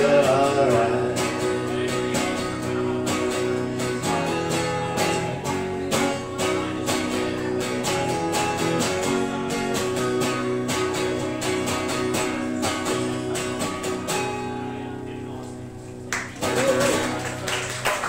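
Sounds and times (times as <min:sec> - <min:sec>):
electric guitar strumming: 0:00.0 - 0:17.8.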